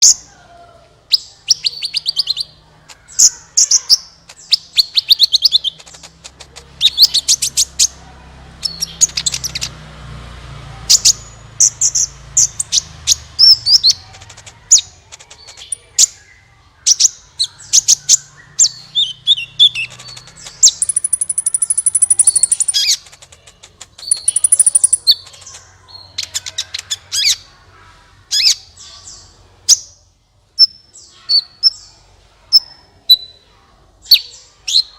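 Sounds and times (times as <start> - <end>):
bird chirping and trilling: 1.1 - 8.0, 8.6 - 9.8, 10.9 - 27.5, 28.3 - 30.0, 30.6 - 34.9.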